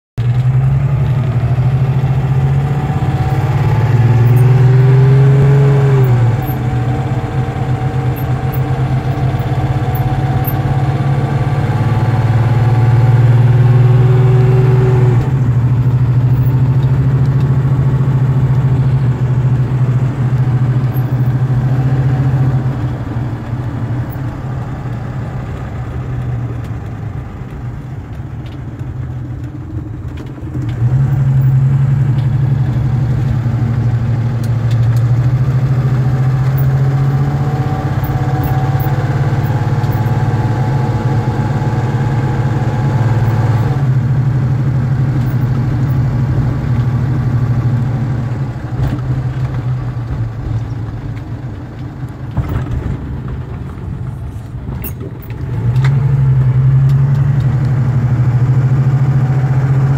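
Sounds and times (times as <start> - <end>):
car engine accelerating: 0.1 - 59.9.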